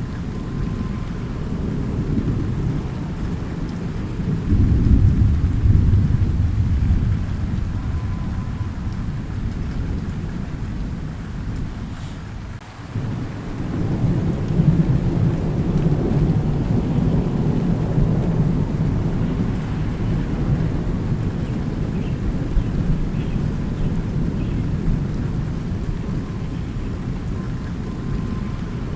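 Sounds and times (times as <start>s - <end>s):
rolling thunder: 0.0s - 28.9s
steady rain: 0.0s - 28.9s.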